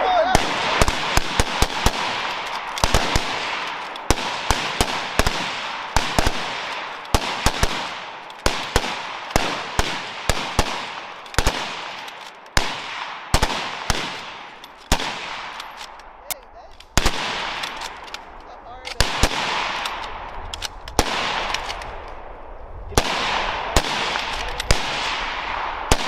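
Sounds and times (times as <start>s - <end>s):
rifle shots echoing: 0.0s - 26.0s.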